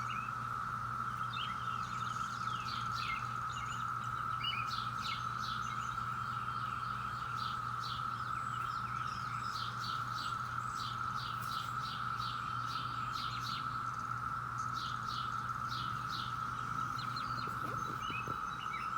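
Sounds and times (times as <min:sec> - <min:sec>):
cicadas droning: 0:00.0 - 0:18.9
birds chirping: 0:01.5 - 0:18.9.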